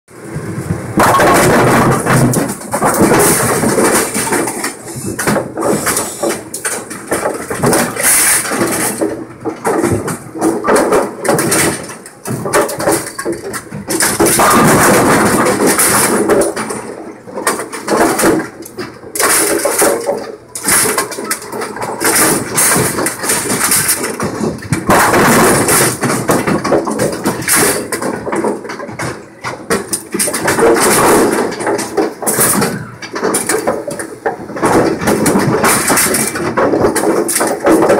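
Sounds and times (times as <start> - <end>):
bowling pinsetter clattering: 0.2 - 37.9
pins knocking and banging: 0.3 - 37.9.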